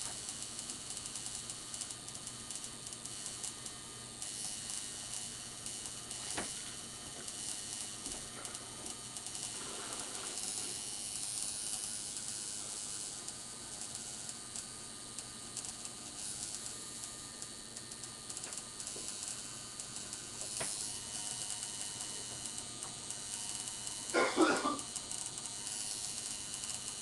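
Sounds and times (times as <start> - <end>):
tattoo machine buzzing: 0.0 - 27.0.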